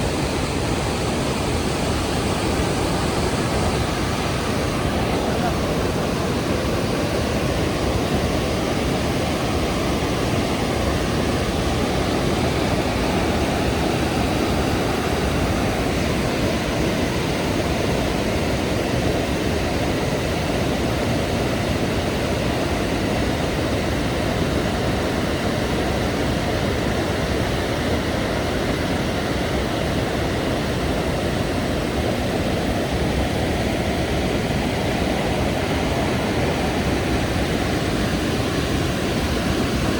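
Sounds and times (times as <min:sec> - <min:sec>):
waterfall rushing: 0:00.0 - 0:25.6, 0:29.8 - 0:39.9.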